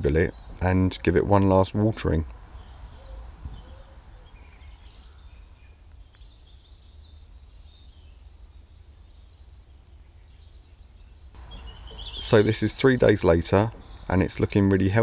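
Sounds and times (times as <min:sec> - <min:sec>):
faint bird chirps: 0:02.5 - 0:14.6.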